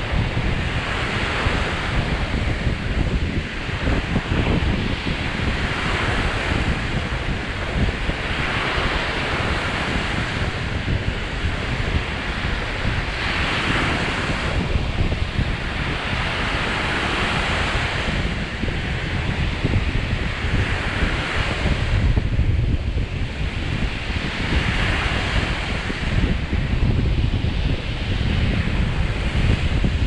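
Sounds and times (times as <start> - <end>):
waves breaking on beach: 0.0 - 30.0
wind buffeting microphone: 0.0 - 30.0.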